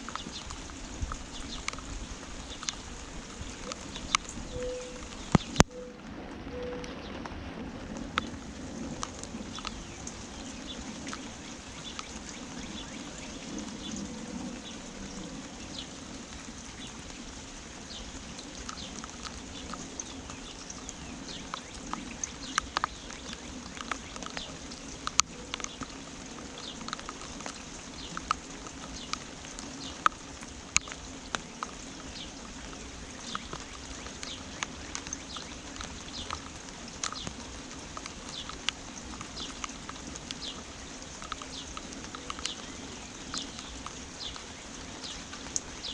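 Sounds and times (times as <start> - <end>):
small birds chirping: 0.0 - 5.9, 9.0 - 45.9
steady rain: 0.0 - 45.9.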